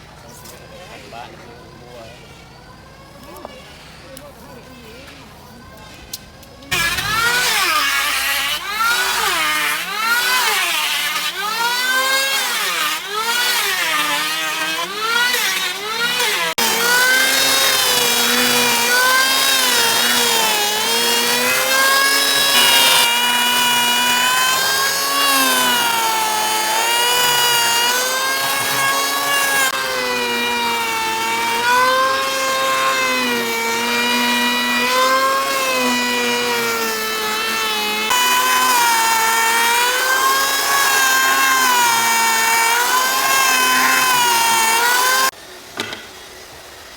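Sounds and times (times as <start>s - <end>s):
power tool motor whine: 6.6s - 45.4s.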